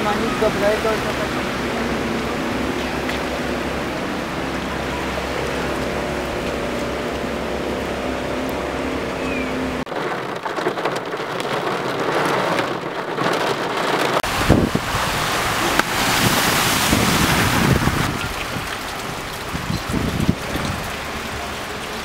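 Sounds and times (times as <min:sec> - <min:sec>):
engine rumble: 0:00.0 - 0:10.0, 0:12.8 - 0:22.0
water spraying under tyres: 0:00.0 - 0:22.0.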